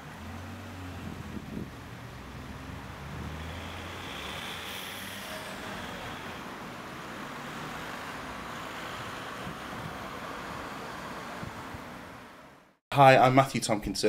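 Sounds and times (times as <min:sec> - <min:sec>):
cars passing: 0:00.0 - 0:12.7
outdoor background noise: 0:00.0 - 0:13.3.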